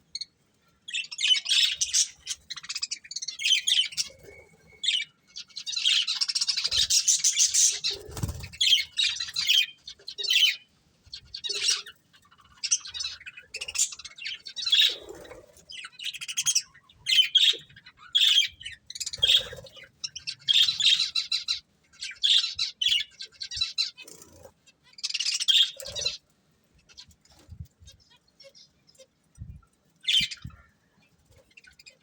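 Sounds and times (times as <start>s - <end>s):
budgerigars chirping and chattering: 0.0s - 32.0s.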